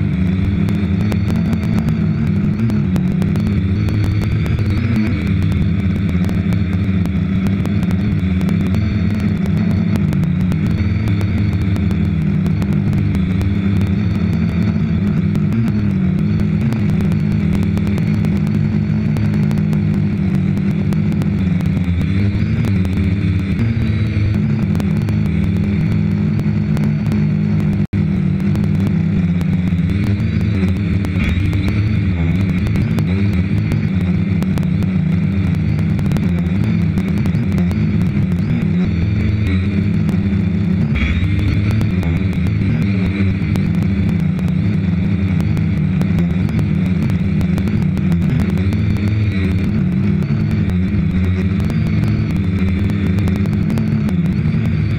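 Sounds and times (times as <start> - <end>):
drone propellers buzzing: 0.0 - 54.9.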